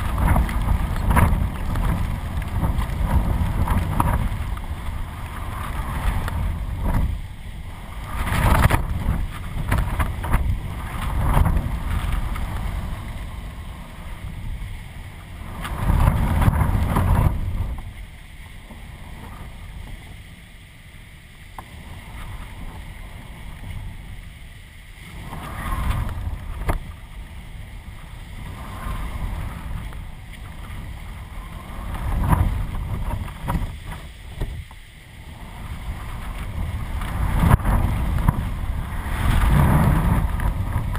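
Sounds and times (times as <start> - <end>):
strong gusty wind on microphone: 0.0 - 20.3, 21.6 - 40.9.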